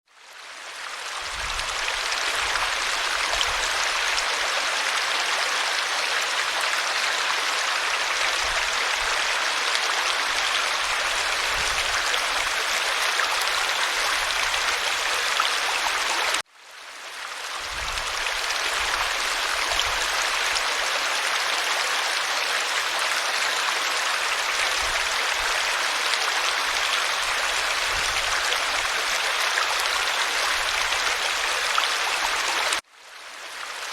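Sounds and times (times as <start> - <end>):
river rushing water: 0.4 - 16.4, 17.1 - 33.9.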